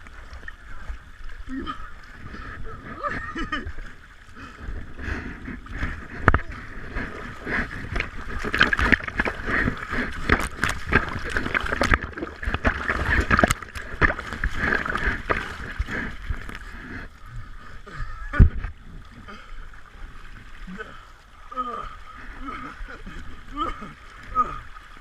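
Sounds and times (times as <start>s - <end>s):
water sloshing and gurgling: 0.0s - 25.0s.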